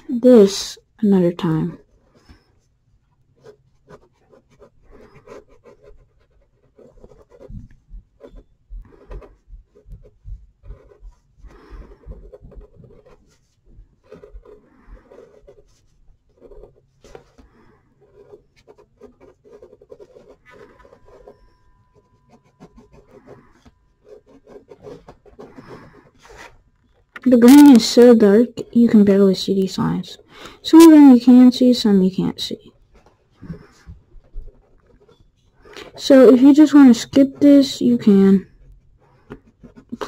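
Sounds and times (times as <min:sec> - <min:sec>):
coloured pencil scratching on paper: 0:00.0 - 0:40.0.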